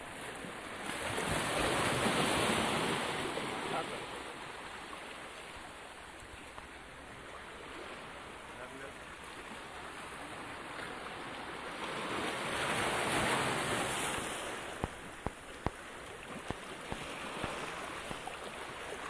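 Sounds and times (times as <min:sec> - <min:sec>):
sea waves washing over rocks: 0:00.0 - 0:05.3, 0:07.3 - 0:19.0.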